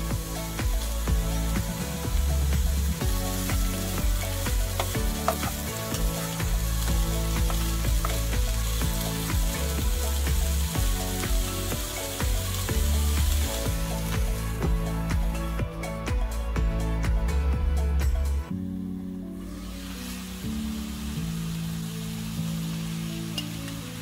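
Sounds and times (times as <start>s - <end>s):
vegetables sizzling in a pan: 0.0s - 15.6s, 19.4s - 24.0s
background music: 0.0s - 24.0s.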